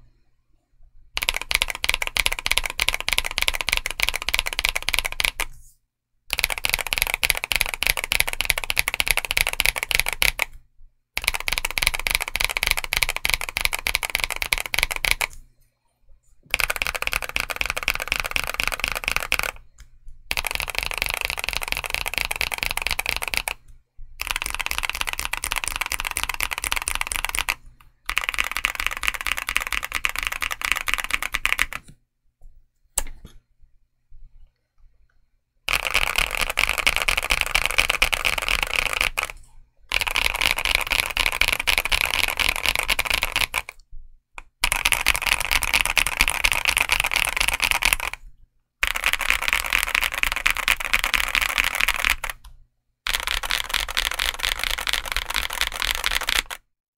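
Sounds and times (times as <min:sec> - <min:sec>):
mechanical keyboard typing: 0:01.2 - 0:05.6, 0:06.3 - 0:10.6, 0:11.2 - 0:15.4, 0:16.5 - 0:32.0, 0:35.7 - 0:43.8, 0:44.4 - 0:56.7.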